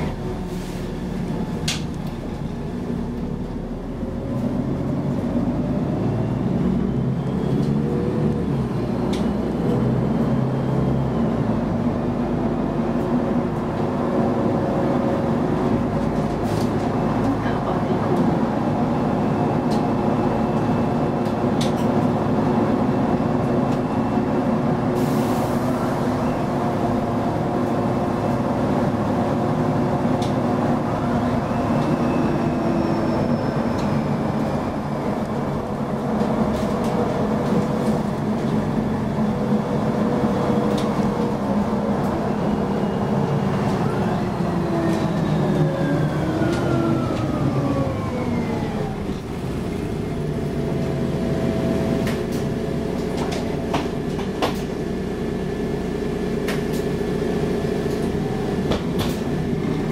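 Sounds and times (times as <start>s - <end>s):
bus engine humming: 0.0s - 59.9s.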